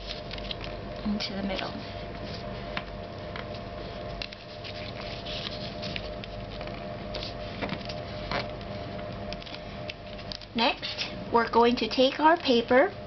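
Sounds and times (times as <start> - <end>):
paper rustling and crinkling: 0.0 - 11.2
faint steady hum: 0.0 - 13.0.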